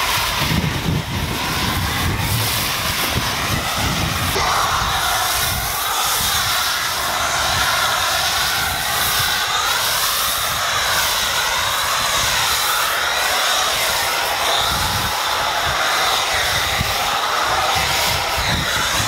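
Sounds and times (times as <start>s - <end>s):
foam cannon hissing spray: 0.0s - 19.0s.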